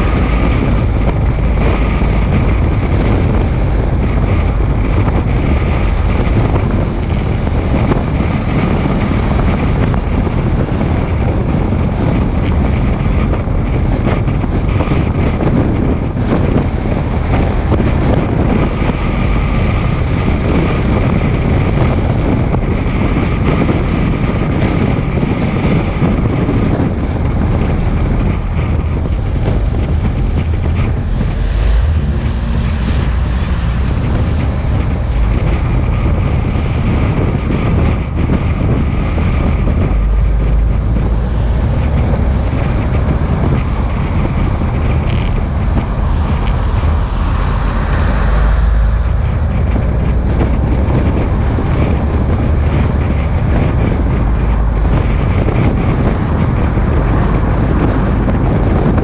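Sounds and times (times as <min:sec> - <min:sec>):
moving vehicle rumble: 0:00.0 - 0:59.0
wind buffeting microphone: 0:00.0 - 0:59.0.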